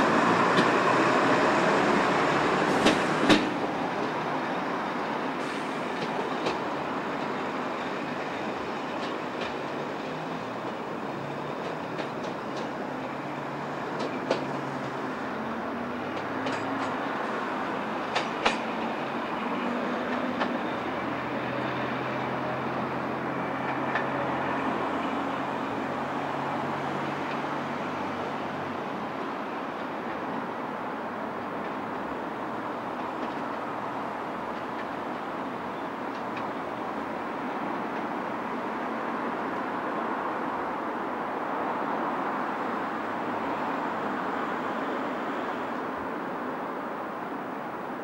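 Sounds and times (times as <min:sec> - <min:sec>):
diesel railcar engines running: 0:00.0 - 0:48.0.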